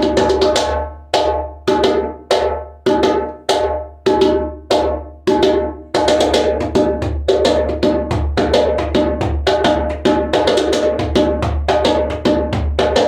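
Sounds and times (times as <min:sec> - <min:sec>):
djembe drum strokes: 0:00.0 - 0:13.0.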